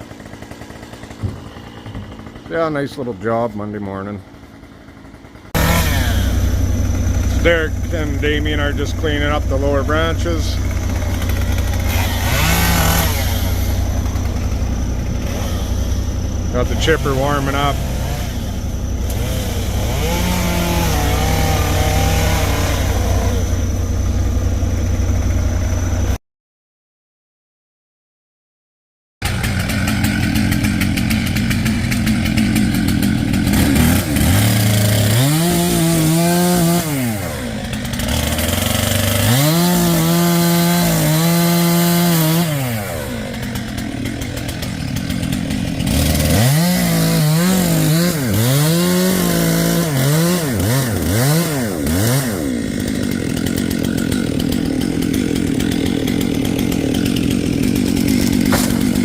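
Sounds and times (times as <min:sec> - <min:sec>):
chainsaw revving: 0:00.0 - 0:26.2, 0:29.2 - 0:59.0
engine running steadily: 0:00.0 - 0:26.2, 0:29.2 - 0:59.0.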